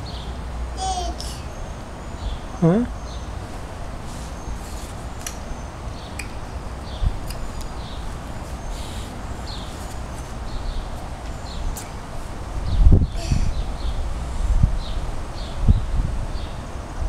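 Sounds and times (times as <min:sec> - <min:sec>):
small birds chirping: 0:00.0 - 0:14.0
low outdoor background noise: 0:00.0 - 0:17.0.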